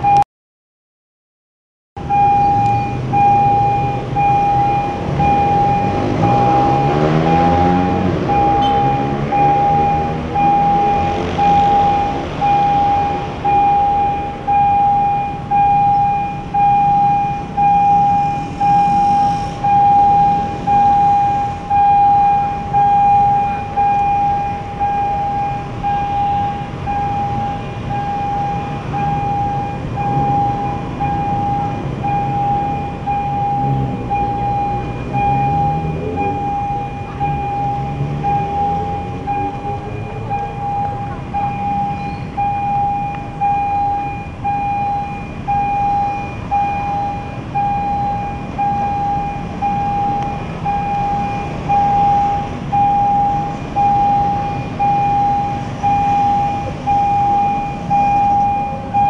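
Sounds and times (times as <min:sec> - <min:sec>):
level crossing alarm beeping: 0:00.0 - 0:00.2, 0:02.0 - 0:59.0.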